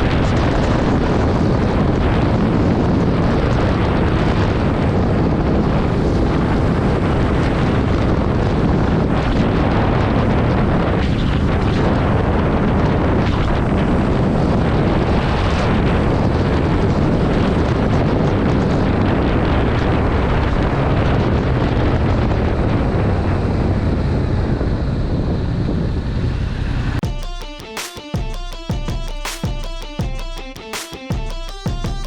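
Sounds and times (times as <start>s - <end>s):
wind rush on microphone: 0.0s - 27.0s.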